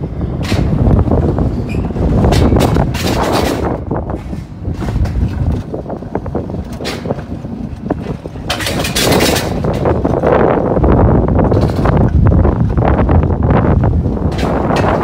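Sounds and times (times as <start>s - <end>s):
coaster wheels rumbling on track: 0.0s - 15.0s
wind buffeting microphone: 0.0s - 15.0s.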